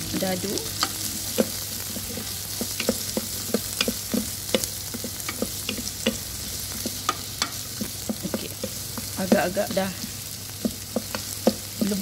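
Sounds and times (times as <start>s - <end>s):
onions sizzling in butter: 0.0s - 12.0s.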